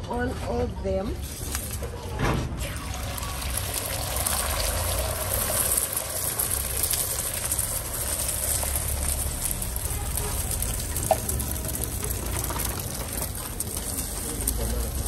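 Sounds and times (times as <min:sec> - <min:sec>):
eggs sizzling on a griddle: 0:01.1 - 0:15.0.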